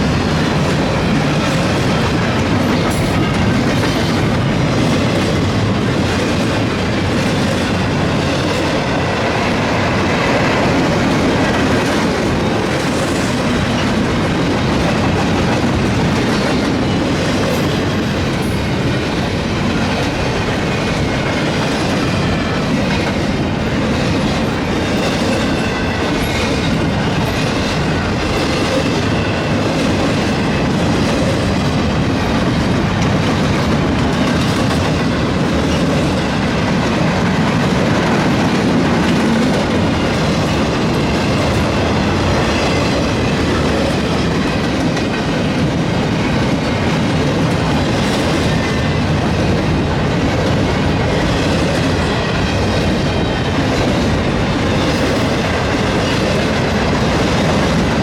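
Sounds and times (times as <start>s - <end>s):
freight train rolling on rails: 0.0s - 58.0s.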